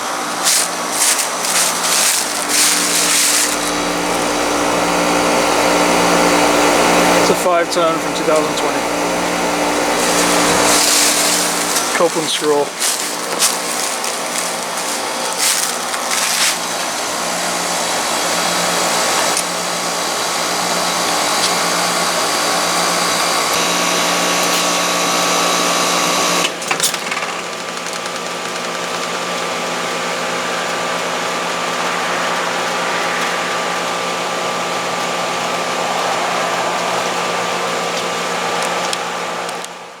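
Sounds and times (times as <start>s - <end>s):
fan hiss: 0.0s - 26.6s, 29.3s - 40.0s
heat pump compressor humming: 0.0s - 40.0s.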